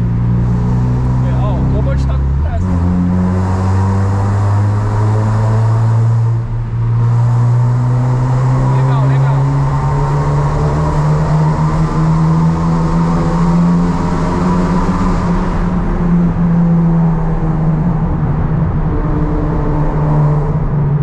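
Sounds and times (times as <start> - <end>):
car engine cruising: 0.0 - 21.0.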